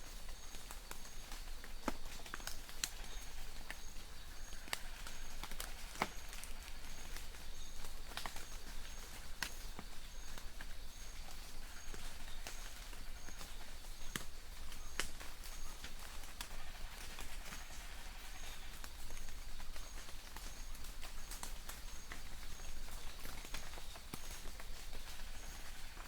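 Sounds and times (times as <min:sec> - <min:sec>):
light rain hiss: 0:00.0 - 0:26.0
raindrops hitting leaves: 0:00.0 - 0:26.0.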